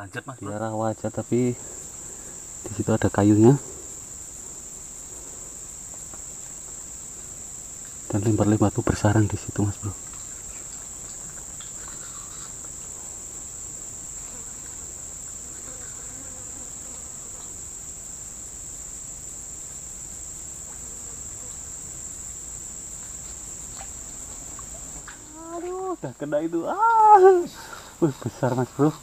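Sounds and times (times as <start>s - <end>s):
high-pitched insect drone: 0.0s - 29.0s
faint ticks and rustles: 0.1s - 29.0s.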